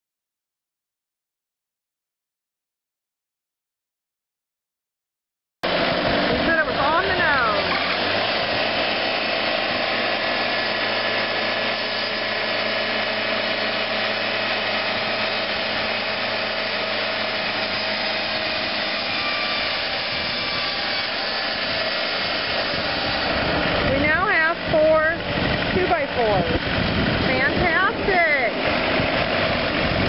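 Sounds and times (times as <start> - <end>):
band saw cutting log: 5.6 - 30.0
engine hum: 5.6 - 30.0.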